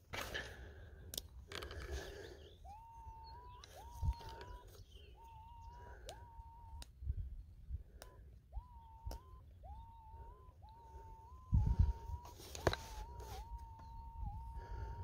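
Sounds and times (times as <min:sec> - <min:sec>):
metal detector tones: 0:00.1 - 0:07.0, 0:07.9 - 0:15.0.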